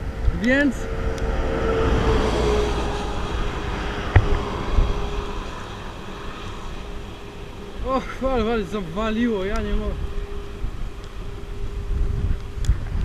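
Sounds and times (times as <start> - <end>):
vehicle passing: 0.0 - 12.4
wind rumble on microphone: 0.0 - 13.0.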